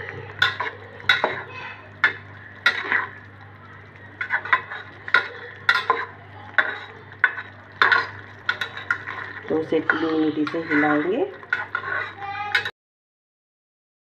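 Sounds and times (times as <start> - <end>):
spatula scraping a frying pan: 0.2 - 3.3, 4.1 - 12.7.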